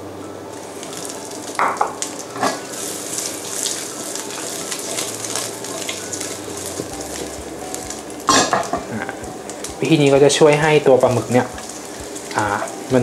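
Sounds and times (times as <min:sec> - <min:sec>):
sausages sizzling in frying pan: 0:00.5 - 0:13.0.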